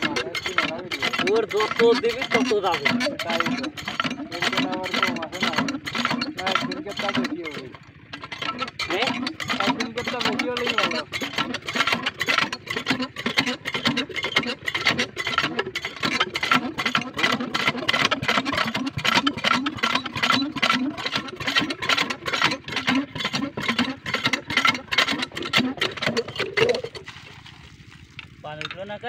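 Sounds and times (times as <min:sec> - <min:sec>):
small engine driving water pump: 0:00.0 - 0:29.0.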